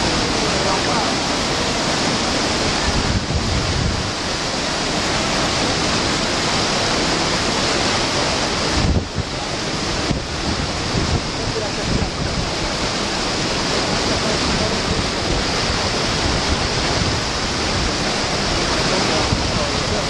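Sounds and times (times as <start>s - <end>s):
wind buffeting microphone: 0.0s - 6.2s, 7.0s - 20.0s
turbulent white water rushing: 0.0s - 20.0s.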